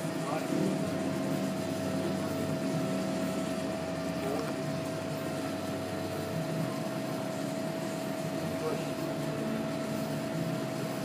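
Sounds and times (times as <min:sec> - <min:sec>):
constant tone: 0:00.0 - 0:11.0
steady mechanical hum: 0:00.0 - 0:11.0.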